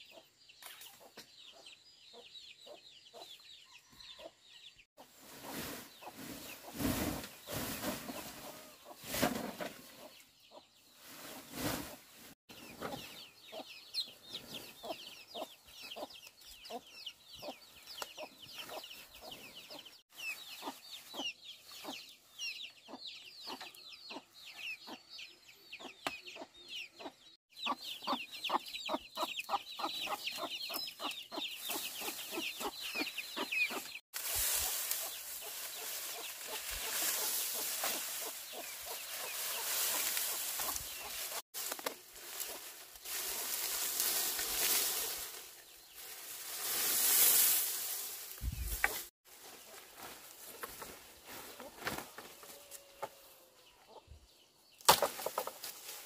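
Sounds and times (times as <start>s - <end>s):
chickens clucking: 0.0s - 4.3s, 5.0s - 44.1s, 48.4s - 55.7s.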